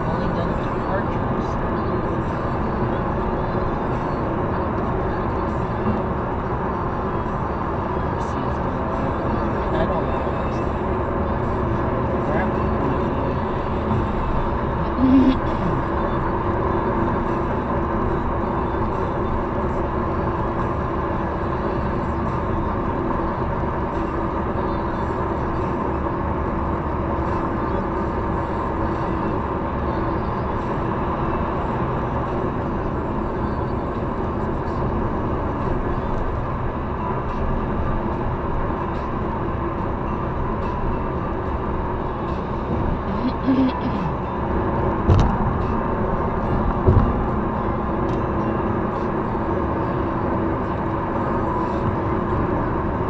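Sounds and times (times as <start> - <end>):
car road and tyre noise: 0.0 - 53.0.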